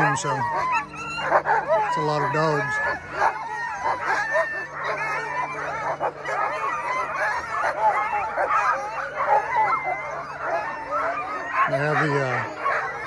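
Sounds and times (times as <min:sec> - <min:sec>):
sled dogs barking and yelping: 0:00.0 - 0:13.0.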